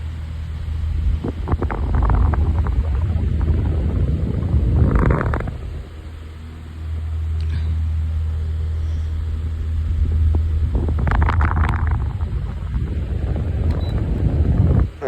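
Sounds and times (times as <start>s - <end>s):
fan humming and rushing air: 0.0s - 15.0s.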